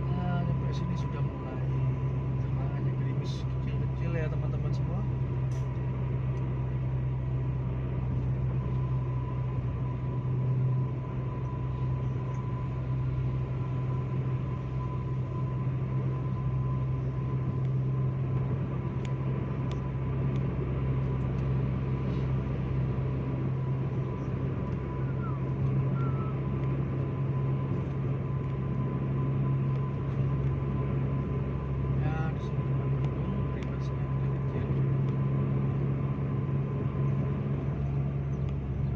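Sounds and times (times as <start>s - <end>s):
car engine hum: 0.0s - 38.9s
faint high whine: 0.0s - 38.9s.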